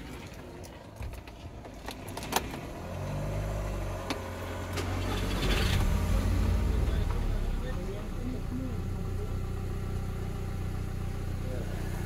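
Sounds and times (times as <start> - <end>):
engine cranking and idling: 0.0 - 12.0.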